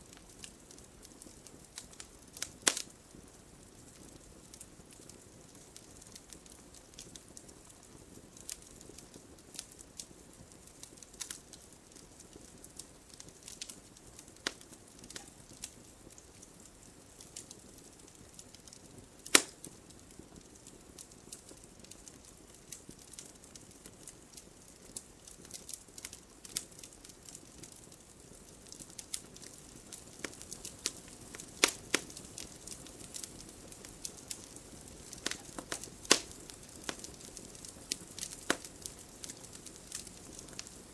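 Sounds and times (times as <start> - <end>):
campfire crackling: 0.0 - 40.9
soft fire hiss: 0.0 - 40.9
loud fire pops: 0.1 - 40.9.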